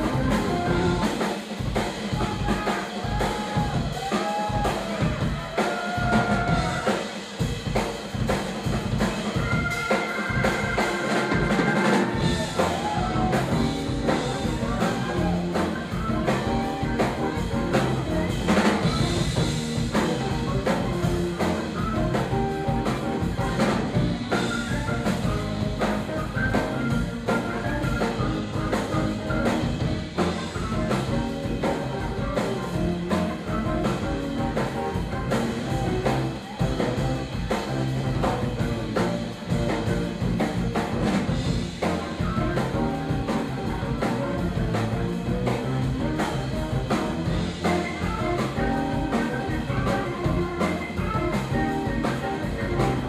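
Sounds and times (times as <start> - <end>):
funk jazz band playing: 0.0 - 53.0.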